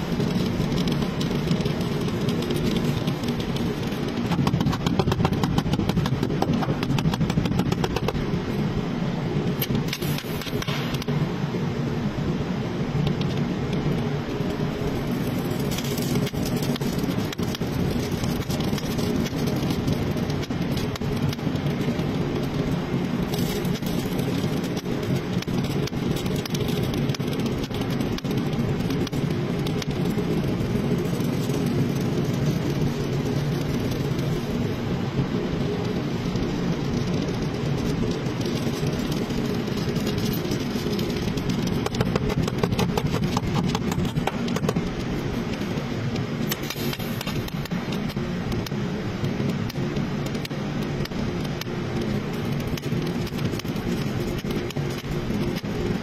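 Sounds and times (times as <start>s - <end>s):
low machine drone: 0.0s - 56.0s
welding arc hissing: 0.0s - 56.0s.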